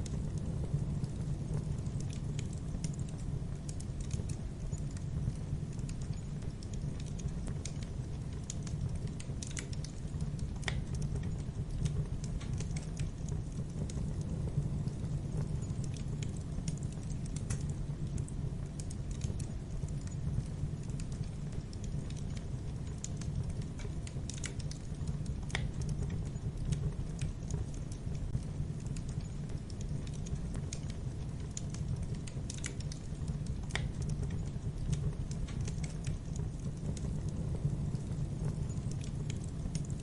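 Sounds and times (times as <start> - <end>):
campfire crackling and popping: 0.0 - 40.0.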